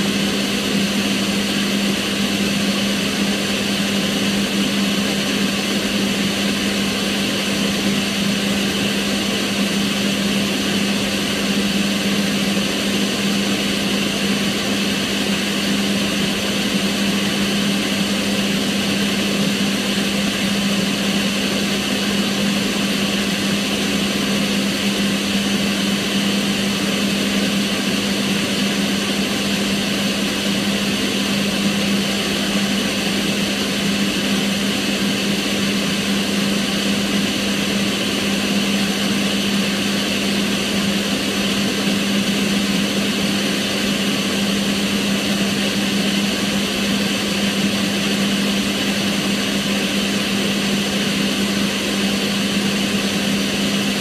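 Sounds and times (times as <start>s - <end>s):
extractor fan air rush: 0.0s - 54.0s
fan hum: 0.0s - 54.0s.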